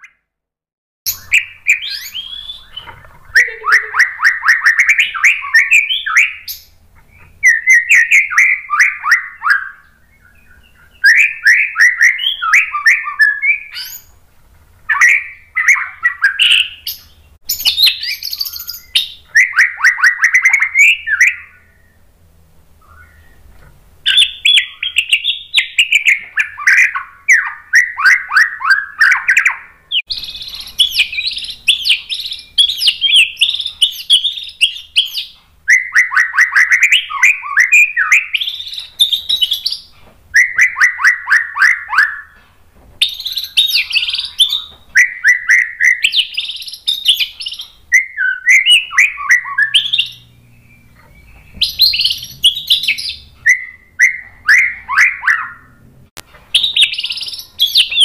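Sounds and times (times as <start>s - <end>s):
bird singing loudly: 1.1s - 14.1s, 14.9s - 22.0s, 24.0s - 42.4s, 43.0s - 55.8s, 56.5s - 58.0s.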